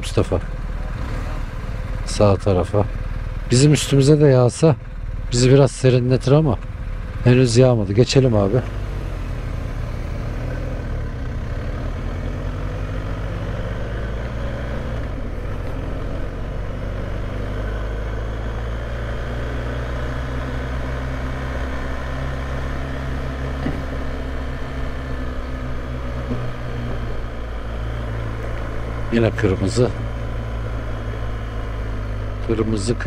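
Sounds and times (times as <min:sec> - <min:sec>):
motorcycle engine accelerating: 0:00.0 - 0:33.0
road and wind noise: 0:00.0 - 0:33.0.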